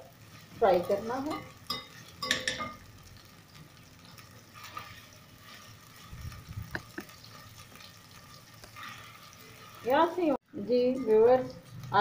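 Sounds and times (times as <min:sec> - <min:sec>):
onions sizzling in oil: 0:00.0 - 0:12.0
spatula stirring: 0:00.2 - 0:12.0.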